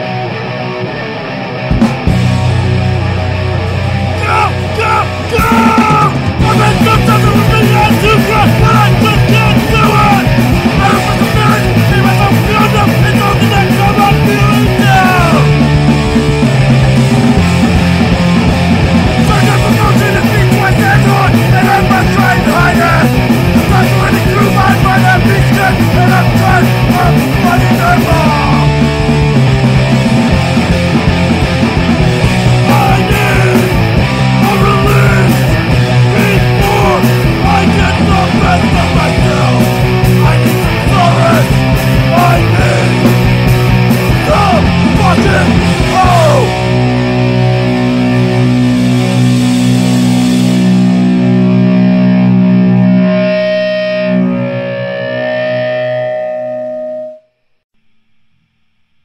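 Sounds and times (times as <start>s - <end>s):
punk rock band playing: 0.0s - 57.2s.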